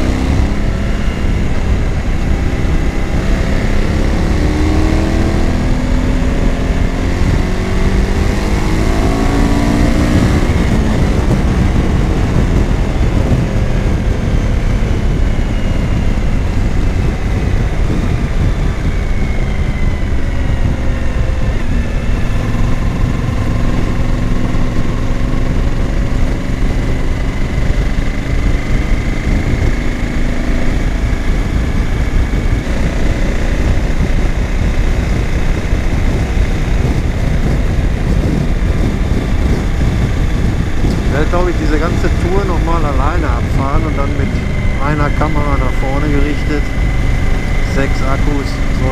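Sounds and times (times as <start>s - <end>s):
heavy wind rush: 0.0s - 48.9s
motorcycle engine accelerating: 0.0s - 48.9s.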